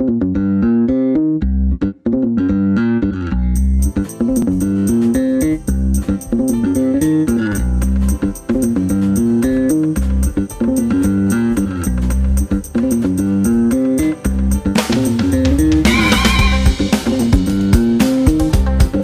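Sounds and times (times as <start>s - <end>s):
plucked melody over bass: 0.0s - 19.0s.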